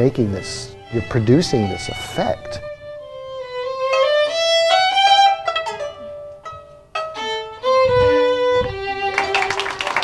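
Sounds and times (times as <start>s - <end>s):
violin playing slow melody: 0.0s - 9.8s.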